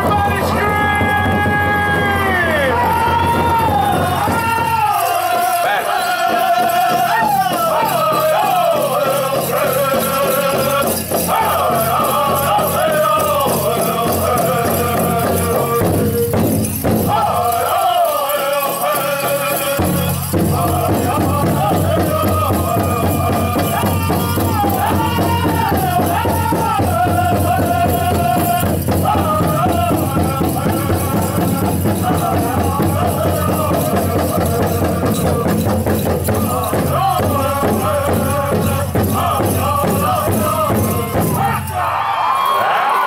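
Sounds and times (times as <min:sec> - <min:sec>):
big drum beat: 0:00.0 - 0:41.8
ankle bells jingling: 0:00.0 - 0:42.9
drum group singing: 0:00.0 - 0:43.0.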